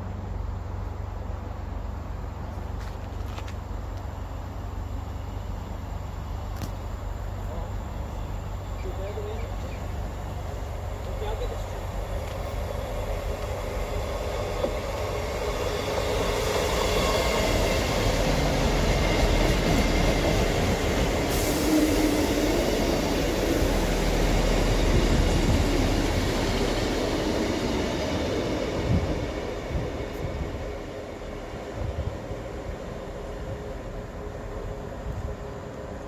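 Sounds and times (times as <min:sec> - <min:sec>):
diesel train passing: 0:00.0 - 0:36.0.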